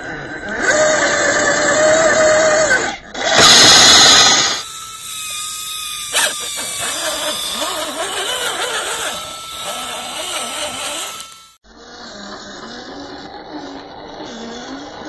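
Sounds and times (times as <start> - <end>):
small electric motor whining: 1.6 - 15.0.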